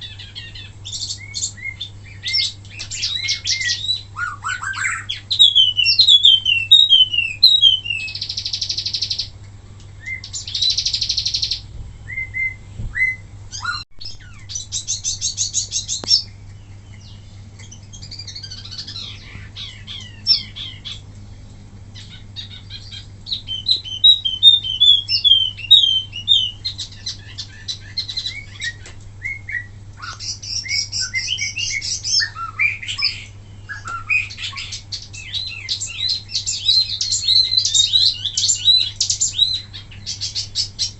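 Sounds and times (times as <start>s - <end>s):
songbird singing fast song: 0.0s - 9.4s, 10.0s - 21.1s, 22.0s - 40.9s
steady low hum: 0.0s - 40.9s.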